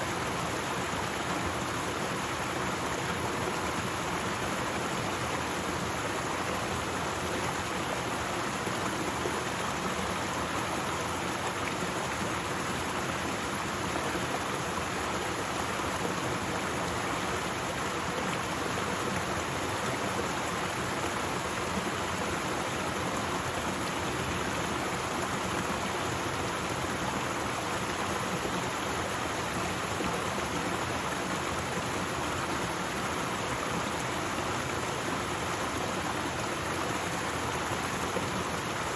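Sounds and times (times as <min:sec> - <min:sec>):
waterfall: 0:00.0 - 0:38.9.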